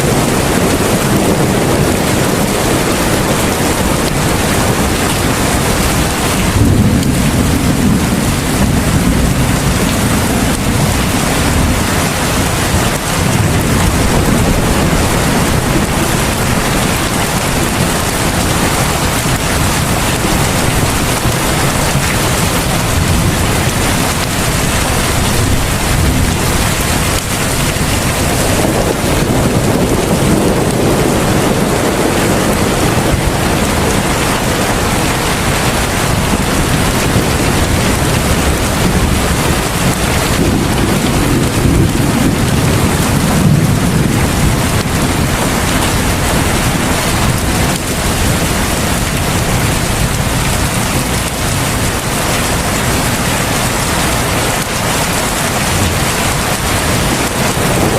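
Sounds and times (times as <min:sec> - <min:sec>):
heavy rain pouring: 0:00.0 - 0:57.9
low rumbles: 0:00.0 - 0:57.9.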